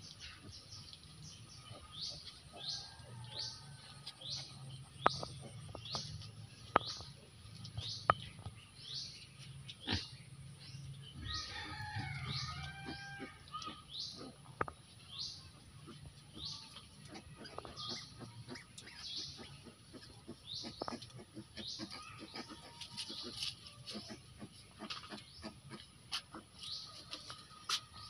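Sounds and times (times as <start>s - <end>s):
small bird chirping: 0.0s - 26.9s.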